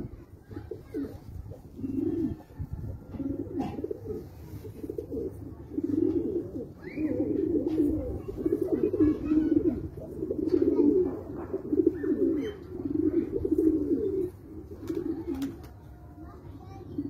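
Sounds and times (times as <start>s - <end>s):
pigeons cooing: 0.0s - 15.8s, 16.7s - 17.0s.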